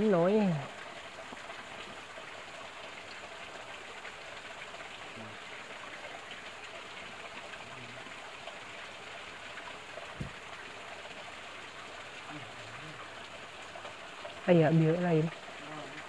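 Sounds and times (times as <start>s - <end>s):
faint stream water rushing: 0.0s - 16.0s.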